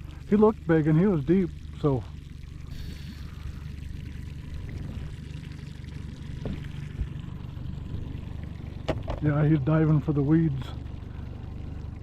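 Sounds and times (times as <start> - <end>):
boat motor humming: 0.0 - 12.0
water noise: 0.0 - 12.0.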